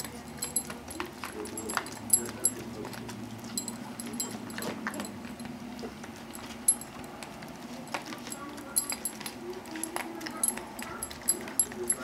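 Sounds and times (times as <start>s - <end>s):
clinks against a bowl: 0.0s - 12.0s
puppy eating wet food: 0.0s - 12.0s.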